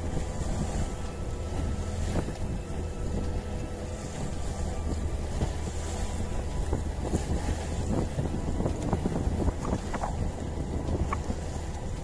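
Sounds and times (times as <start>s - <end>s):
boat engine droning: 0.0s - 12.0s
water slapping against hull: 0.0s - 12.0s
wind buffeting microphone: 0.0s - 12.0s.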